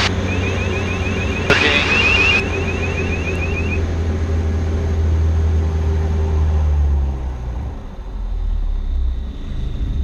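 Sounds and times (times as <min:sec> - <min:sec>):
aircraft engine and propeller droning: 0:00.0 - 0:10.0.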